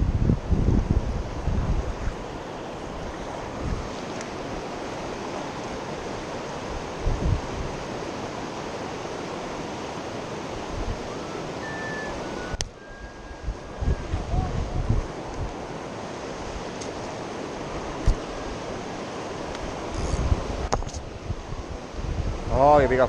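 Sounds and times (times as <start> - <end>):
river water rushing: 0.0 - 23.0
wind buffeting microphone: 0.0 - 23.0.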